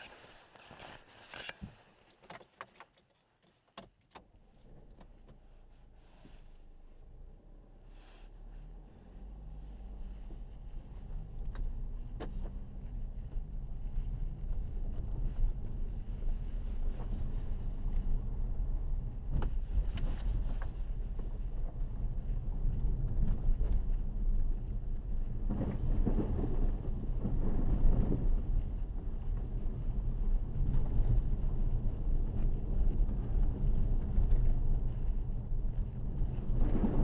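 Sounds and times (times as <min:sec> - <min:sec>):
car cabin rumble on dirt track: 0:03.8 - 0:37.0.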